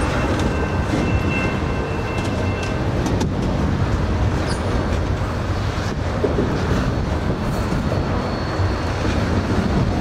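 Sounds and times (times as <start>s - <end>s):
freight train rolling past: 0.0s - 10.0s.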